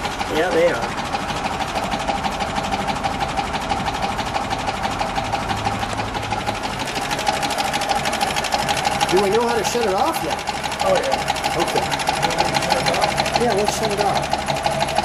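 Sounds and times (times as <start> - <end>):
engine idling with ticking: 0.0 - 15.0.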